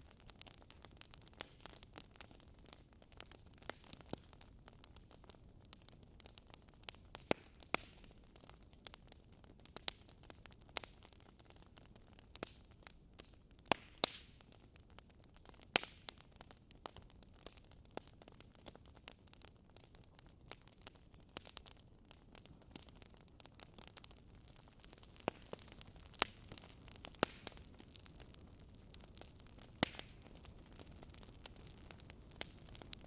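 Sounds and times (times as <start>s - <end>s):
faint low hiss: 0.0s - 33.0s
wood fire crackling: 0.0s - 33.0s.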